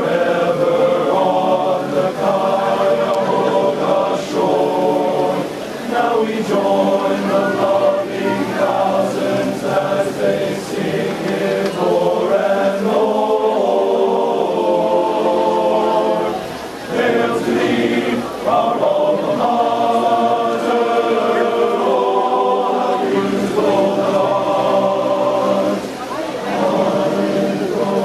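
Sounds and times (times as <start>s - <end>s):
men's chorus singing in harmony: 0.0s - 28.0s.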